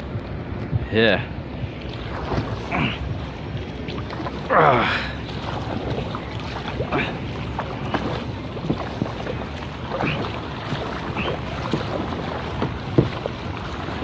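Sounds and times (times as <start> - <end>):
paddle strokes in water: 1.6 - 14.0
small splashes and drips: 1.7 - 14.0.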